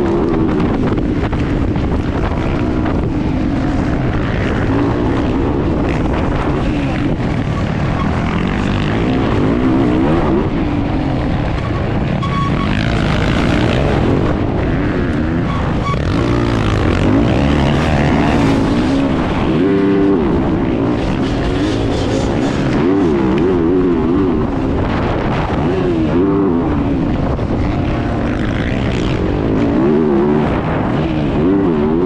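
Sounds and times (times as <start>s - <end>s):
motocross bike engine revving: 0.0s - 32.0s
wind rush on microphone: 0.0s - 32.0s.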